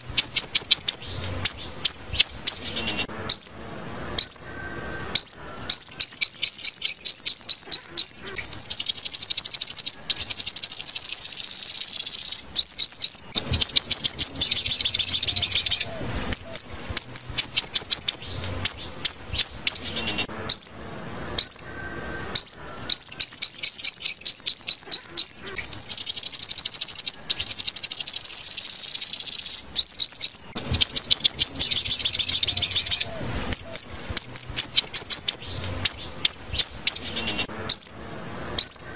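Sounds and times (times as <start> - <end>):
sunbird song: 0.0 - 38.9.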